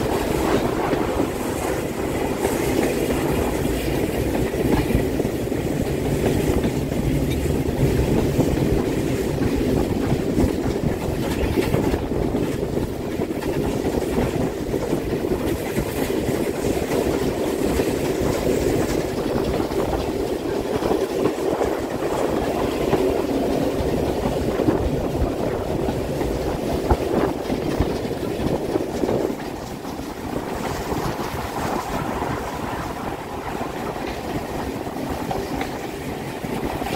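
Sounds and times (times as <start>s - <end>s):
train wheels clattering on rail: 0.0s - 36.9s.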